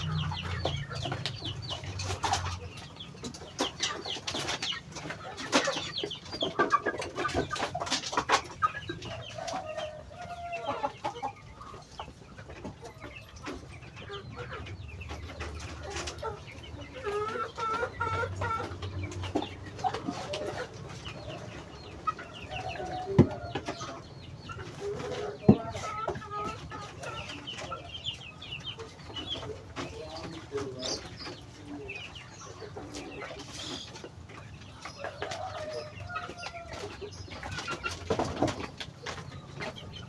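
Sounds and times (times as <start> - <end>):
ducks calling: 0.0 - 40.0.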